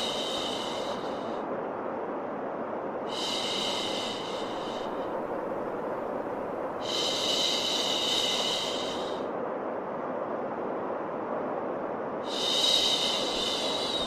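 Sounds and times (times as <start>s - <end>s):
low rushing white noise hiss: 0.0s - 14.0s.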